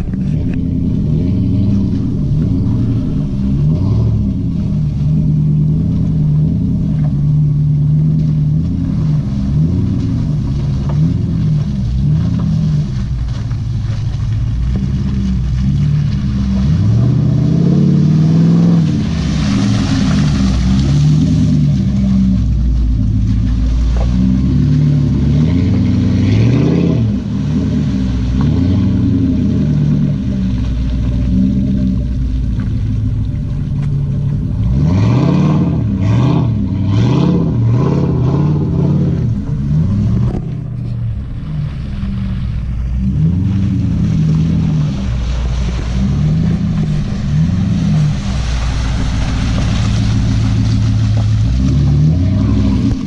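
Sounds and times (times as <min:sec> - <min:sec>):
engine revving under load: 0:00.0 - 0:53.0.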